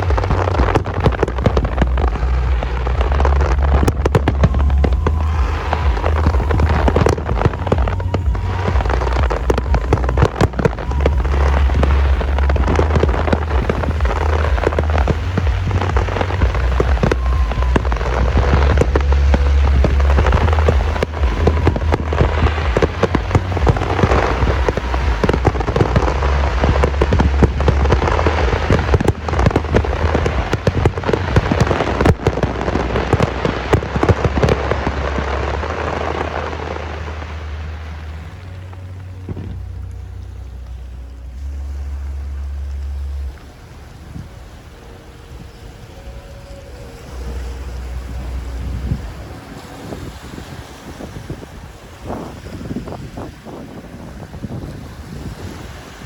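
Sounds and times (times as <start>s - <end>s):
fireworks crackling and popping: 0.0s - 50.0s
rolling rumble of bursts: 0.0s - 52.4s.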